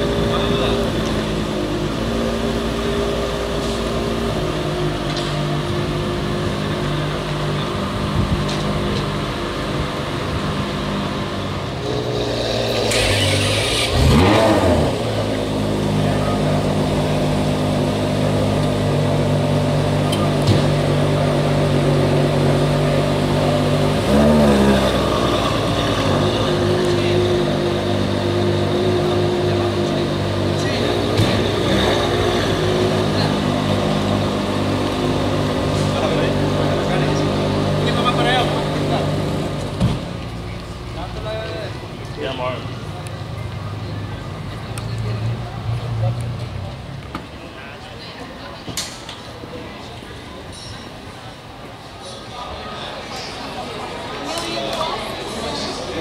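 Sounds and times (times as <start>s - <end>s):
car engine idling and revving: 0.0s - 47.6s.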